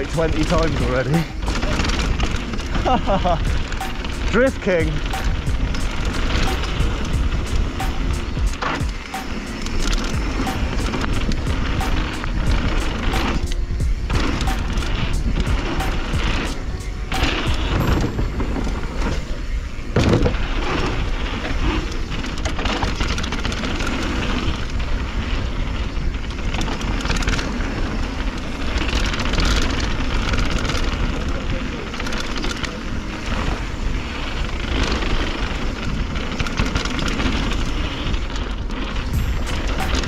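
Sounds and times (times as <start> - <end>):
bike rattling over bumps: 0.0 - 40.0
tyres rumbling on dirt: 0.0 - 40.0
wind buffeting microphone: 0.0 - 40.0.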